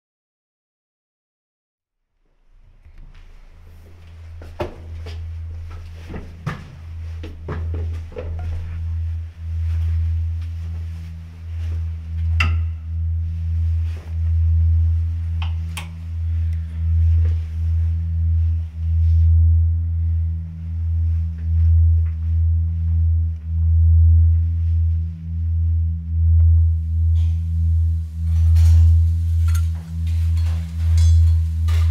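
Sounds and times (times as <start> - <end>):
deep pulsing electronic drone: 2.1 - 31.9.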